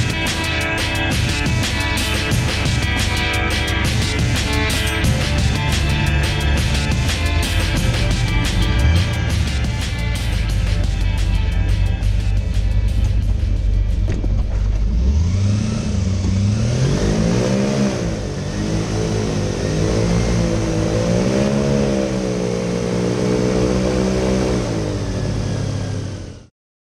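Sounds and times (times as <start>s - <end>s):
airboat engine and propeller: 0.0s - 26.5s.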